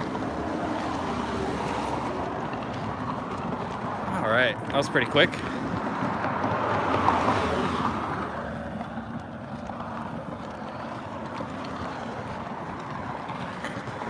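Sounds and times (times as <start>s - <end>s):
car passing close by: 0.0s - 14.0s
steady traffic rush: 0.0s - 14.0s.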